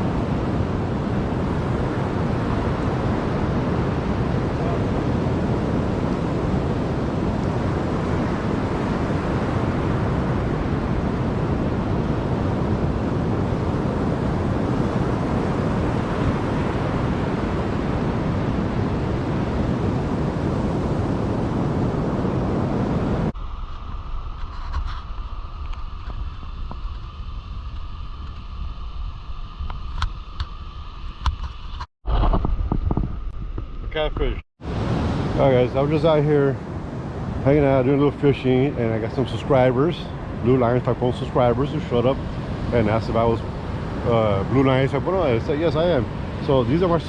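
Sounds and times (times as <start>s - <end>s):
beach surf: 0.0s - 29.0s, 33.9s - 47.0s
wind buffeting microphone: 0.0s - 47.0s.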